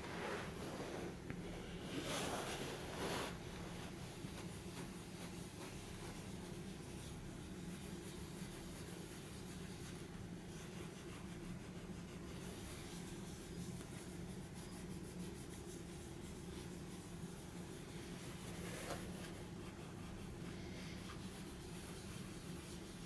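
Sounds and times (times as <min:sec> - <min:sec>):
cloth rubbing on leather: 0:00.0 - 0:23.0.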